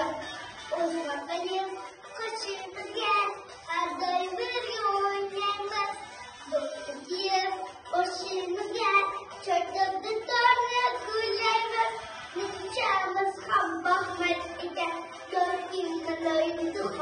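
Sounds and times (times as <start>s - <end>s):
girl singing: 0.0s - 17.0s.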